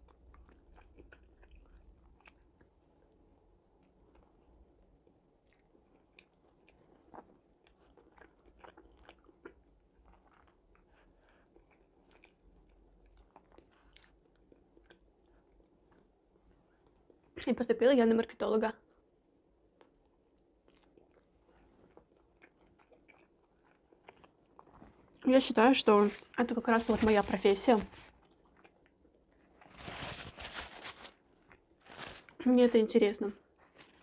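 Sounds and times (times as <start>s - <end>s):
person chewing food: 0.0s - 17.4s, 18.8s - 25.3s, 25.9s - 32.4s, 33.4s - 34.0s.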